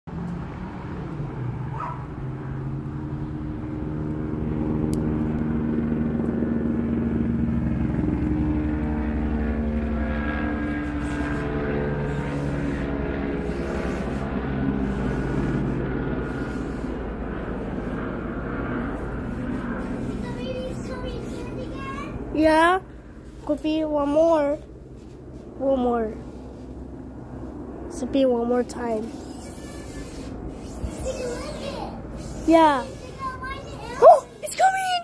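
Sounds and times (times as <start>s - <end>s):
helicopter flying overhead: 0.1s - 35.0s.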